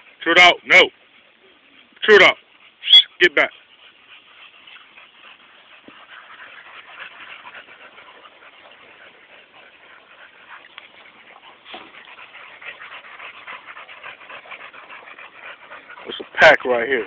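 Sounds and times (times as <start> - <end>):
dogs making quick patter: 1.8 - 17.0.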